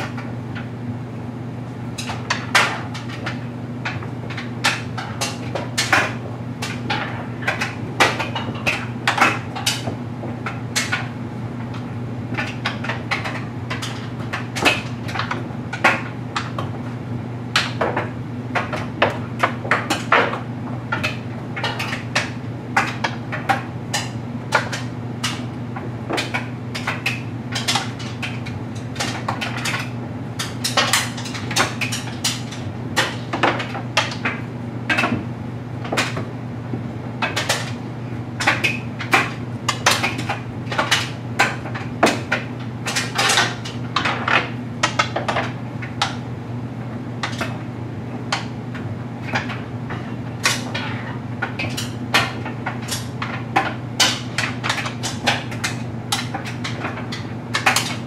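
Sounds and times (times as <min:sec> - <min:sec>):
clothes dryer humming: 0:00.0 - 0:58.0.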